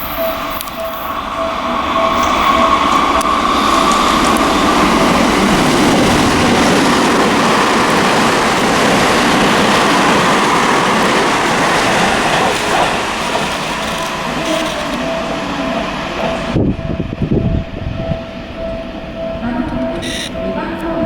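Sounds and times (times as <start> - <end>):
train wheel and rail noise: 0.0 - 21.0.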